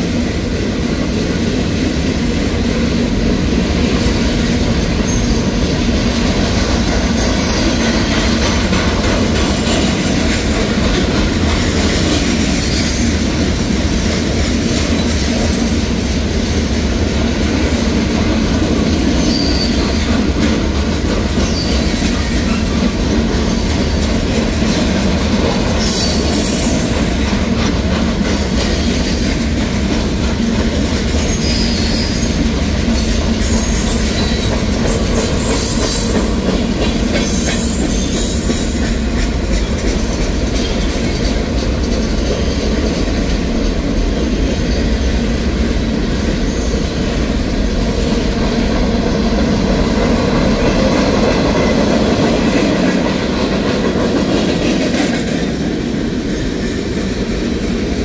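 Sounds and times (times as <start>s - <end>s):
steel wheels clattering over rails: 0.0s - 58.0s.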